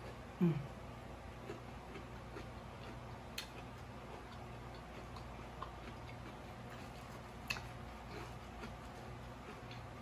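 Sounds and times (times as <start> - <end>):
low steady hum: 0.0 - 10.0
wet mouth chewing clicks: 1.5 - 9.9.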